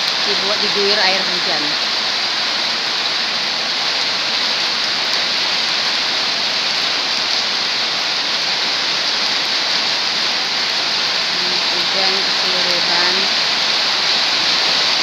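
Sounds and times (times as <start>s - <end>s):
heavy rain on wet road: 0.0s - 15.0s.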